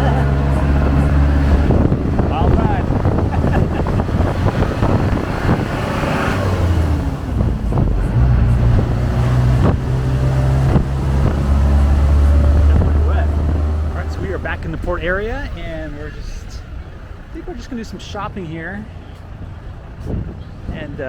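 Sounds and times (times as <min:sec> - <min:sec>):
engine hum: 0:00.0 - 0:21.0
road rumble: 0:00.0 - 0:21.0
wind buffeting microphone: 0:00.0 - 0:21.0.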